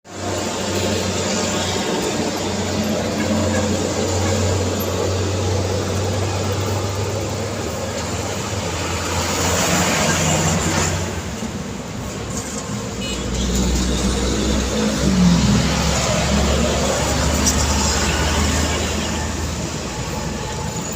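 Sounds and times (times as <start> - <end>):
heavy vehicle engine hum: 0.1 - 20.9
vehicles passing: 0.1 - 20.9.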